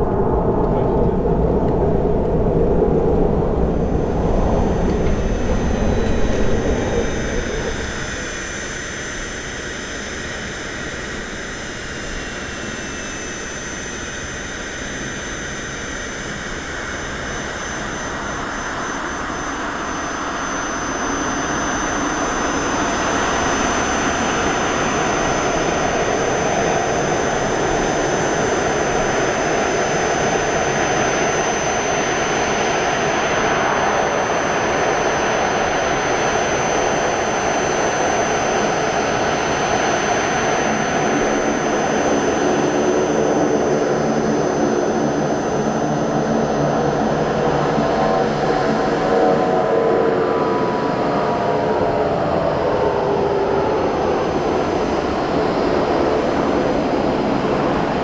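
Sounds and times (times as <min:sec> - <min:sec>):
high jet engine whine: 0:00.0 - 0:58.0
jet engines roaring: 0:00.0 - 0:58.0.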